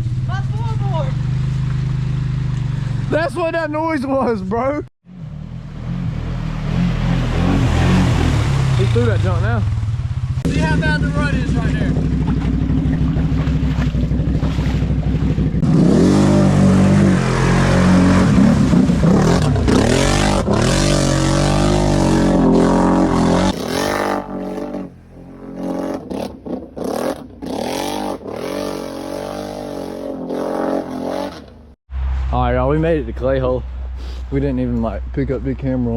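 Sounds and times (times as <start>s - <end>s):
off-road vehicle engine revving: 0.0s - 4.0s, 5.0s - 35.9s.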